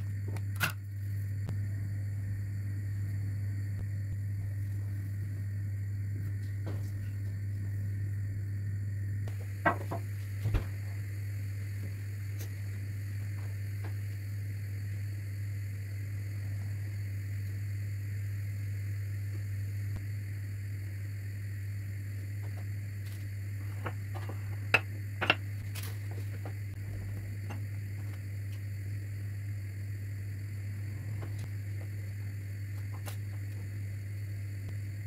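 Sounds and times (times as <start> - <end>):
low kitchen hum: 0.0 - 35.0.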